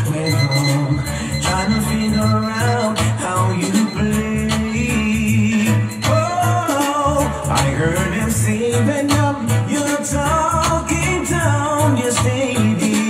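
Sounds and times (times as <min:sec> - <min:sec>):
music with sung vocal: 0:00.0 - 0:13.0.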